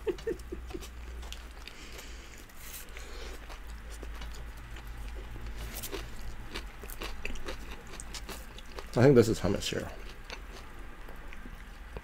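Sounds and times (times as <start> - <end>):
chewing: 0.0 - 12.0
low steady hum: 0.0 - 12.0.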